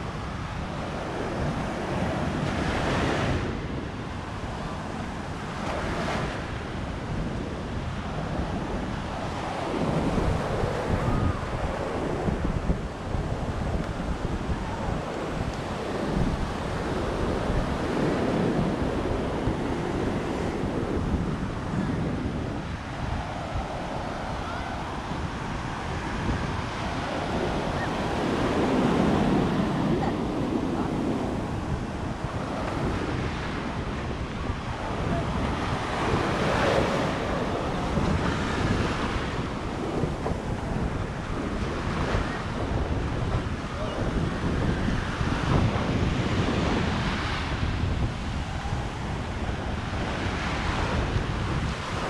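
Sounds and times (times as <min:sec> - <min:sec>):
small waves washing on sand: 0:00.0 - 0:52.0
wind buffeting microphone: 0:00.0 - 0:52.0.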